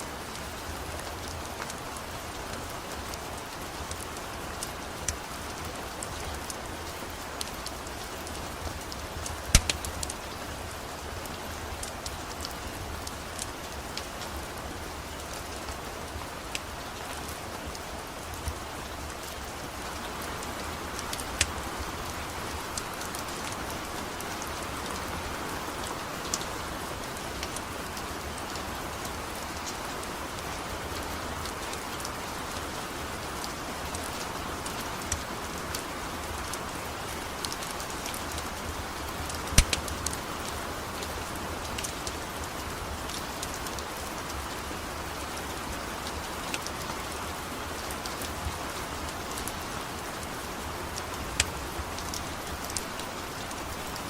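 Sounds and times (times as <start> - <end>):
steady rain: 0.0 - 54.0
wood fire crackling: 0.1 - 54.0.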